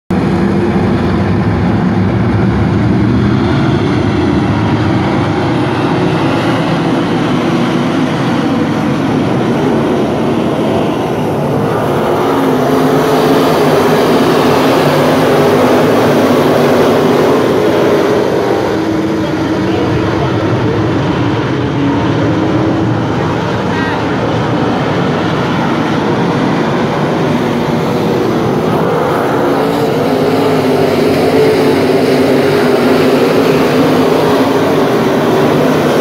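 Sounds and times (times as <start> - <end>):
race car engines: 0.1 - 36.0.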